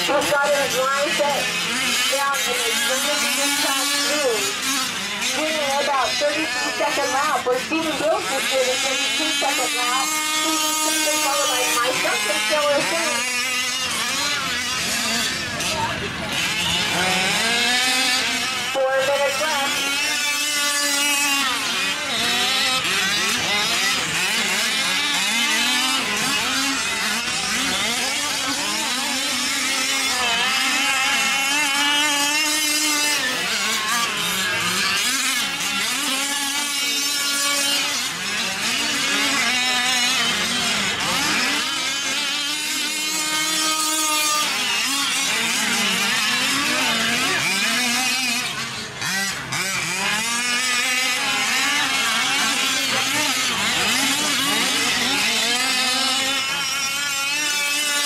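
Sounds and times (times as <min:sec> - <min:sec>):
small two-stroke engines revving: 0:00.0 - 0:58.0.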